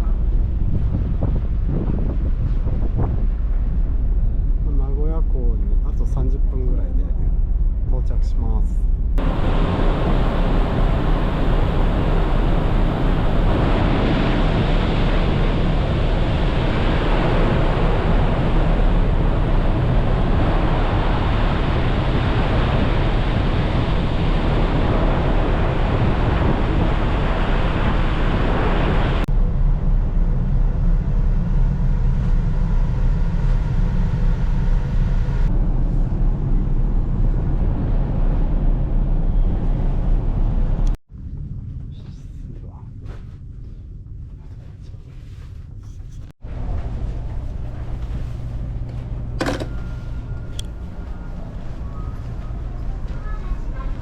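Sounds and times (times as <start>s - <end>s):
ferry low rumble: 0.0s - 54.0s
wind rushing on microphone: 0.0s - 54.0s.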